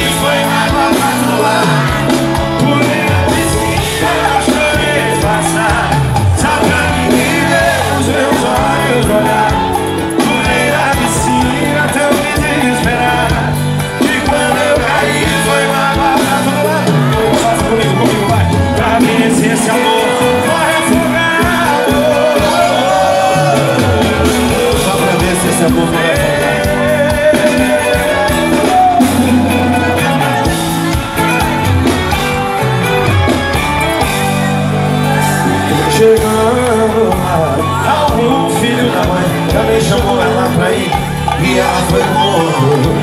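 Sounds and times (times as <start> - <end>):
men singing: 0.0 - 30.8, 35.0 - 43.0
live band through pa: 0.0 - 43.0.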